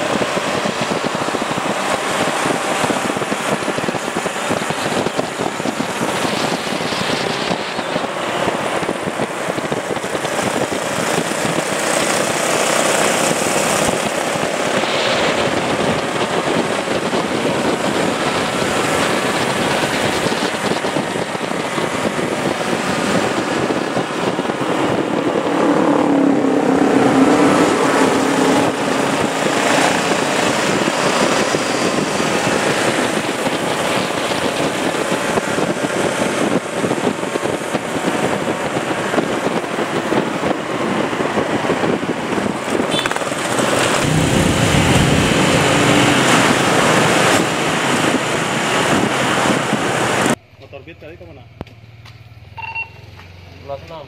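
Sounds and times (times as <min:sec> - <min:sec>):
motorcycle engines at speed: 0:00.0 - 0:54.0
road and wind noise: 0:00.0 - 0:54.0.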